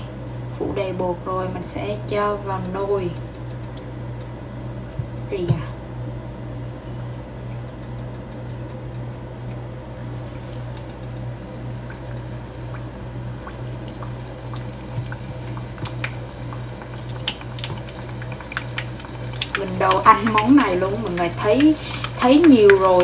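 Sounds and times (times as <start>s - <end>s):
oil bubbling and crackling: 0.0s - 0.6s, 1.5s - 23.0s
steady low hum: 0.0s - 23.0s.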